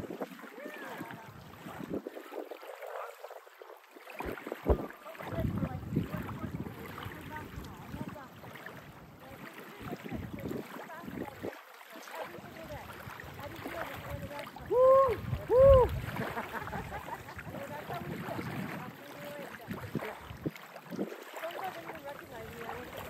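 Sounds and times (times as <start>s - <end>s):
wind on microphone: 0.0s - 11.6s, 12.3s - 23.0s
waves lapping on a shore: 0.0s - 23.0s.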